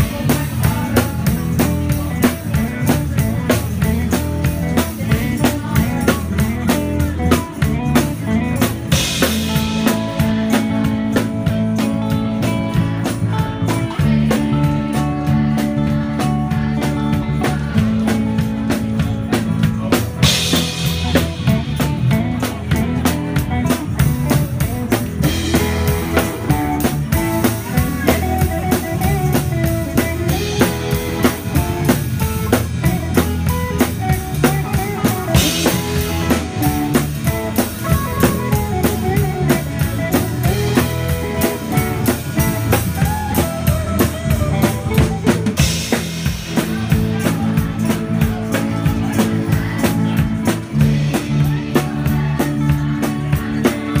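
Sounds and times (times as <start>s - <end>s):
drum kit beat: 0.0s - 54.0s
live band playing: 0.0s - 54.0s.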